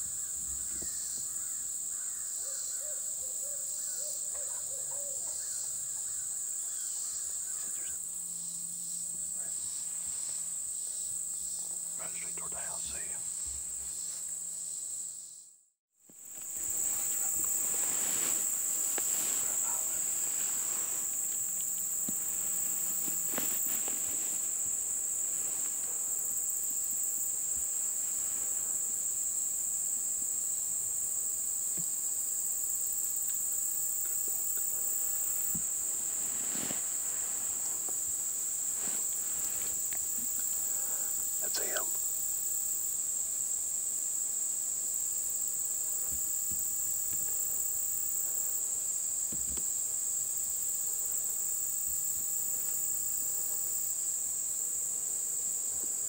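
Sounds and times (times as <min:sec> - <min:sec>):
insect chorus drone: 0:00.0 - 0:56.0.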